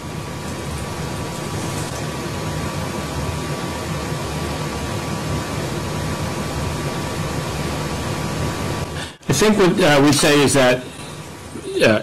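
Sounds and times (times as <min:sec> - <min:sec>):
low hum: 0:00.0 - 0:12.0
steady hiss: 0:00.0 - 0:12.0.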